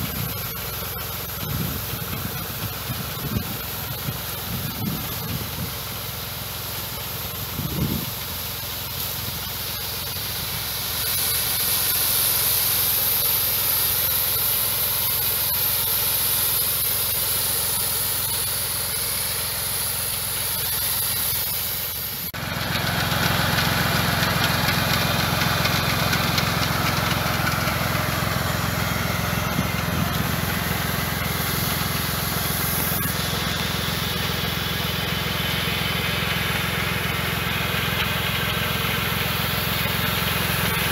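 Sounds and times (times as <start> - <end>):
hiss of liquid spraying: 0.0 - 40.9
tractor engine hum: 0.0 - 40.9.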